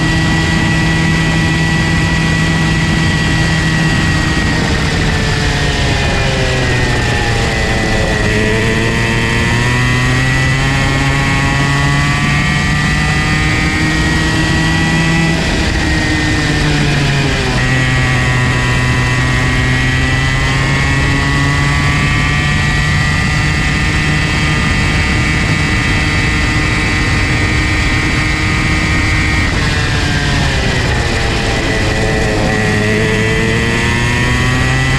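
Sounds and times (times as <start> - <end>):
go-kart engine running hard: 0.0 - 34.9.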